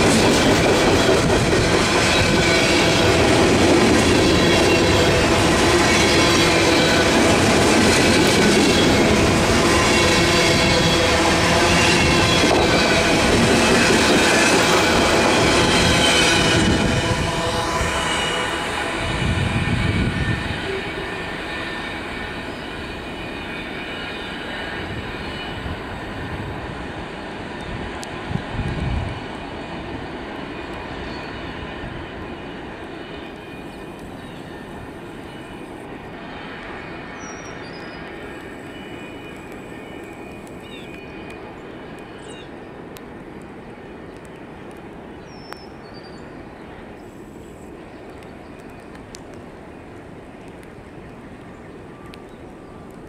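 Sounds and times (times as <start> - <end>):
freight train cars rumbling: 0.0 - 53.0.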